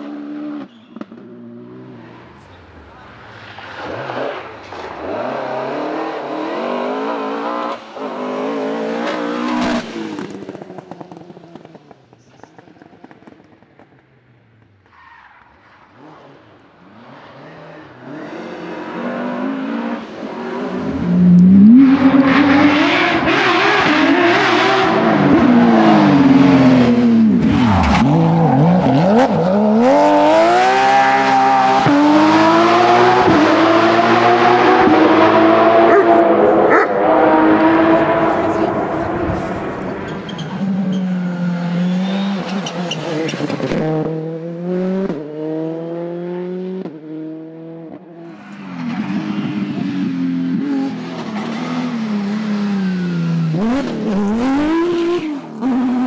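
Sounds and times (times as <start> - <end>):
rally car engine revving: 0.0 - 13.5, 15.6 - 56.0.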